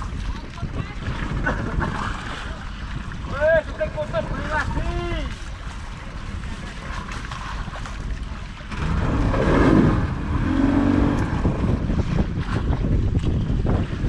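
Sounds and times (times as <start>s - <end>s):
low rumble: 0.0s - 14.0s
water washing around boat: 0.0s - 14.0s
wind buffeting microphone: 0.0s - 14.0s.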